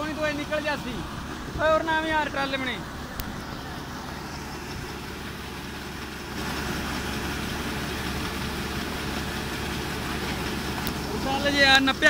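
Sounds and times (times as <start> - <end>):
combine harvester engine humming: 0.0 - 12.0.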